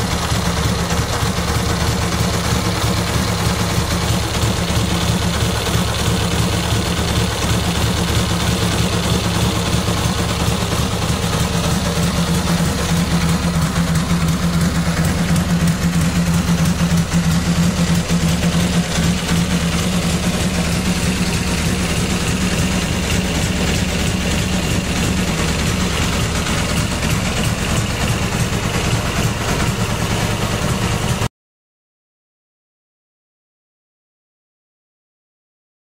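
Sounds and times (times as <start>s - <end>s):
motorcycle engine idling: 0.0s - 31.3s.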